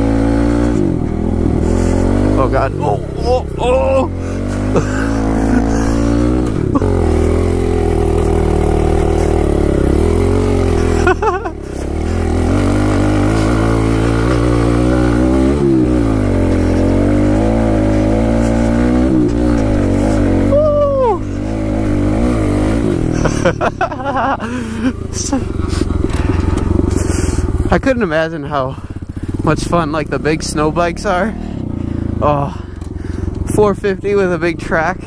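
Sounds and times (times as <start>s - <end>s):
small motorbike engine revving: 0.0s - 28.1s, 28.7s - 35.0s.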